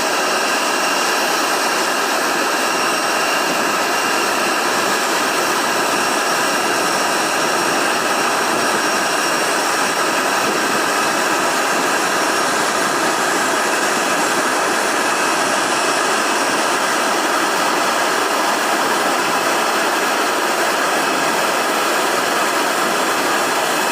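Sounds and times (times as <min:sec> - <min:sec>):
faint high engine whine: 0:00.0 - 0:23.9
jet engines rushing: 0:00.0 - 0:23.9.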